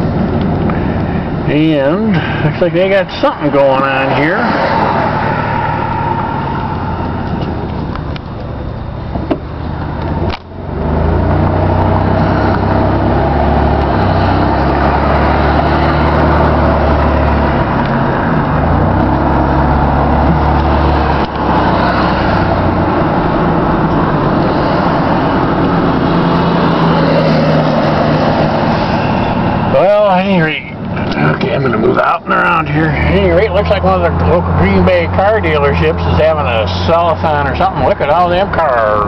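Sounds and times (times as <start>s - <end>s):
car engine hum: 0.0s - 39.0s
road and tyre noise: 0.0s - 39.0s.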